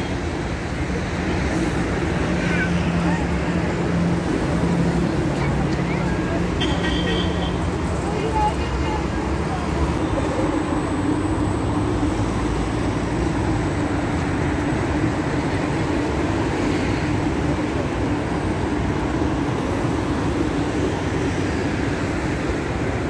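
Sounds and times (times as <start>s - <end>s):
commuter train rumble: 0.0s - 23.0s
road traffic: 0.0s - 23.0s.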